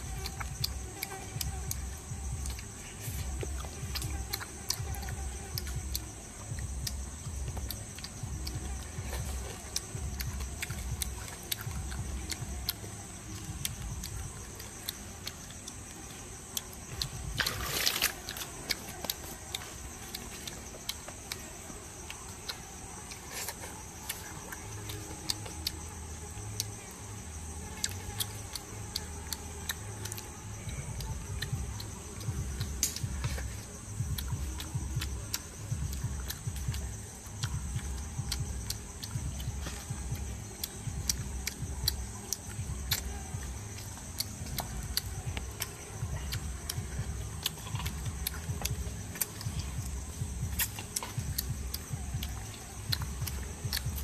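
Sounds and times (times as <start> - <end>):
forest insects buzzing: 0.0 - 54.0
wet chewing and mouth clicks: 0.0 - 54.0.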